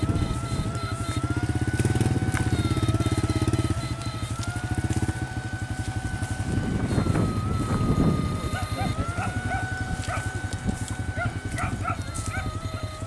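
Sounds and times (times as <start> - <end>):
electric pulsing buzz with whine: 0.0 - 13.0.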